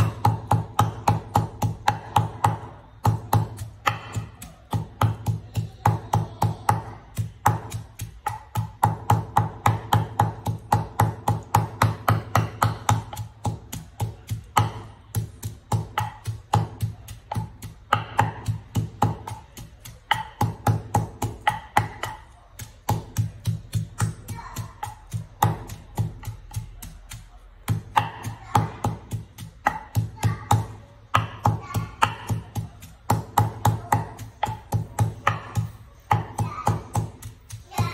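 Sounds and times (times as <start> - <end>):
wooden pestle pounding in mortar: 0.0 - 37.9.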